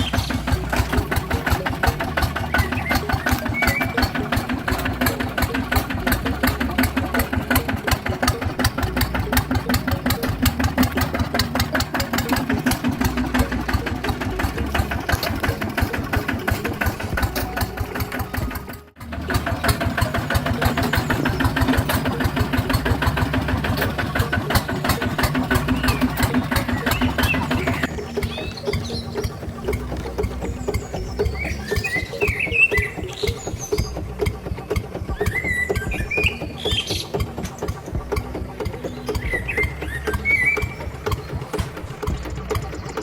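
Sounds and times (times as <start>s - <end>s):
tractor engine chugging: 0.0s - 43.0s.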